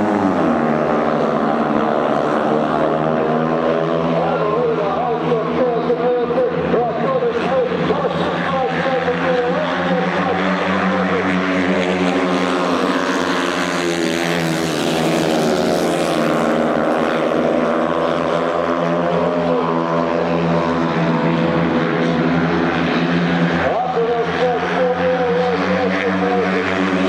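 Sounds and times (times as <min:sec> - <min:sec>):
motorcycles racing: 0:00.0 - 0:27.0.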